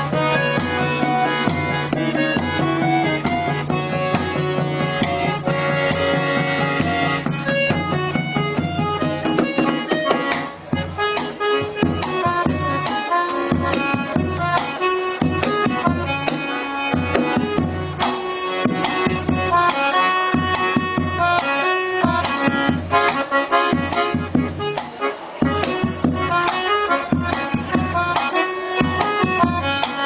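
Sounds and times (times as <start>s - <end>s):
accordion melody: 0.0s - 30.0s
percussion beat: 0.0s - 30.0s.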